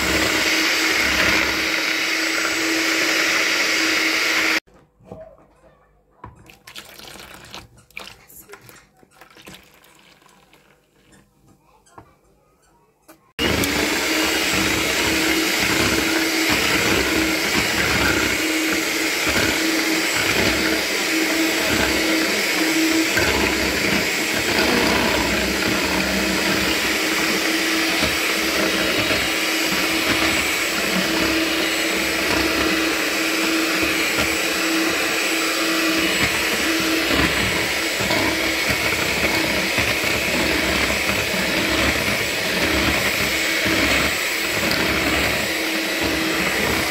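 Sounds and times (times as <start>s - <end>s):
electric hand mixer whisking: 0.0s - 4.7s, 13.4s - 46.9s.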